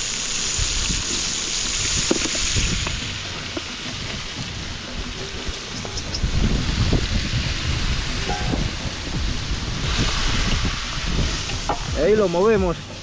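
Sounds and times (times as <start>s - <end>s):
wind buffeting the microphone: 0.5s - 13.0s.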